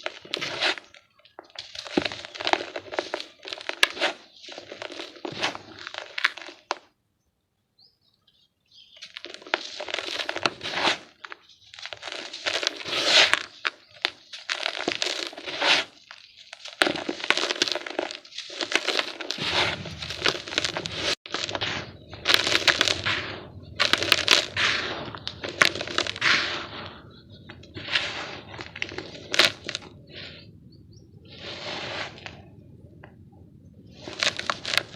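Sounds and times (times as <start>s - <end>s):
dry dirt crumbling: 0.0s - 7.0s, 8.7s - 34.9s.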